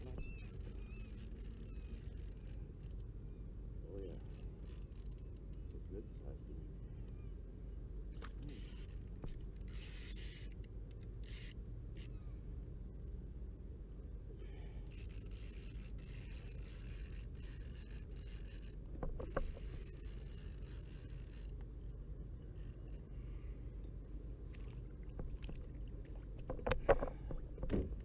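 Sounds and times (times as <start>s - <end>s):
wind and water rumble: 0.0s - 28.0s.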